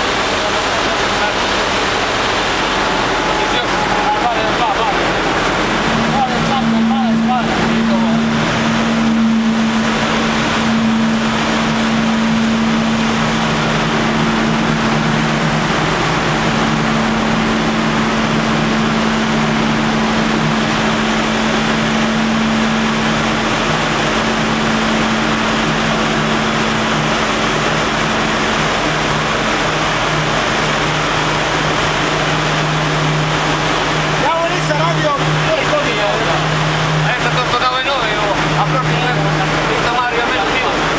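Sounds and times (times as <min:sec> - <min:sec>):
constant two-pitch hum: 0:00.0 - 0:40.9
engine room machinery noise: 0:00.0 - 0:40.9.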